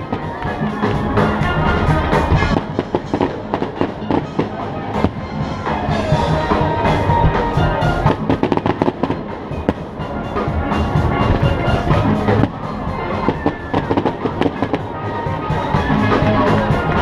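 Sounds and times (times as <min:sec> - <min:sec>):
fireworks bursting with sharp bangs: 0:00.0 - 0:15.8
music with steady beat: 0:00.0 - 0:17.0.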